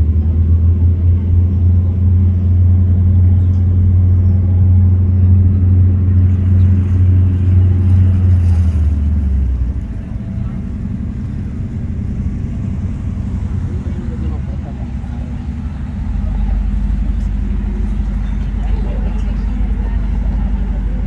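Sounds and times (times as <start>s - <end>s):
boat engines droning: 0.0s - 21.0s.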